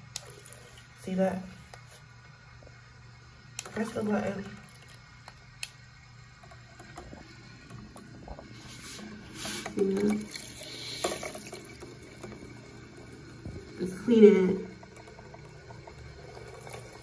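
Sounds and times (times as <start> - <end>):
water swishing in a bowl: 0.0 - 2.3, 3.6 - 5.2, 5.9 - 17.0
low motor hum: 0.0 - 17.0.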